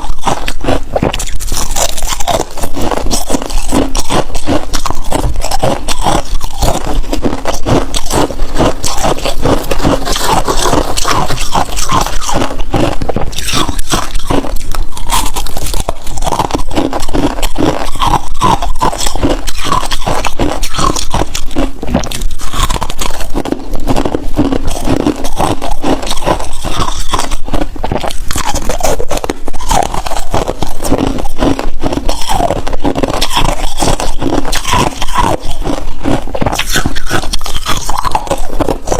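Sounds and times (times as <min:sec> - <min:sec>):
crunching and chewing frost: 0:00.0 - 0:38.9.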